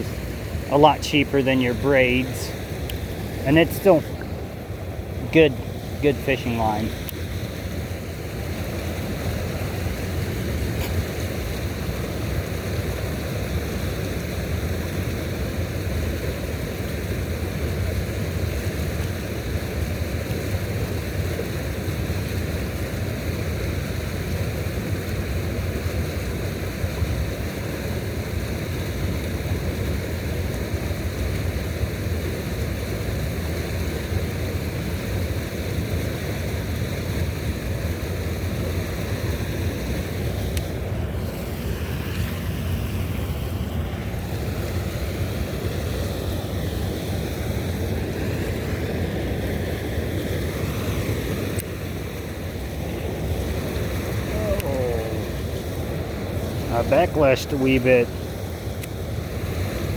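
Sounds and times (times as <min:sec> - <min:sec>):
moving water: 0:00.0 - 0:59.9
wind: 0:00.0 - 0:59.9.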